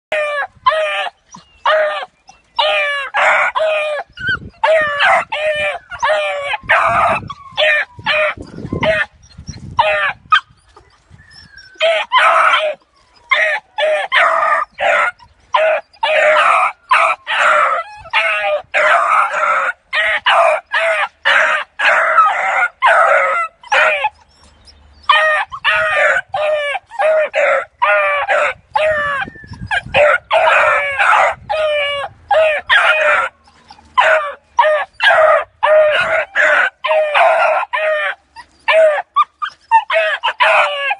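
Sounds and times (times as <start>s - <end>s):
puppies yelping and baying: 0.1s - 40.9s.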